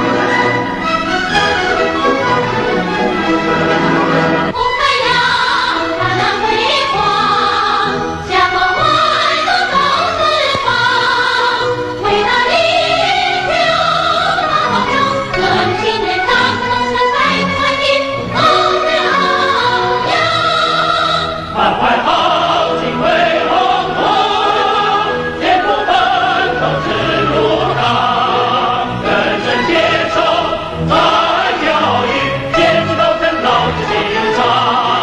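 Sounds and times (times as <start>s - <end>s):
choir singing: 0.0s - 35.0s
instrumental accompaniment: 0.0s - 35.0s.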